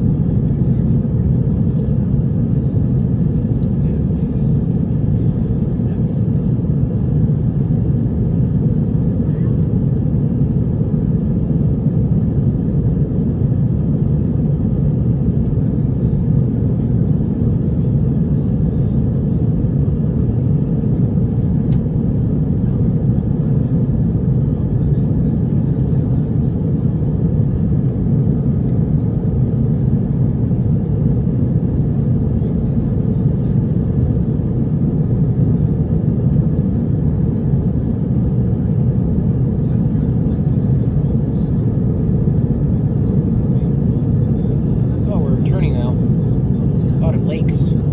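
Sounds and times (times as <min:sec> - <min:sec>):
jet airliner cabin noise: 0:00.0 - 0:47.9.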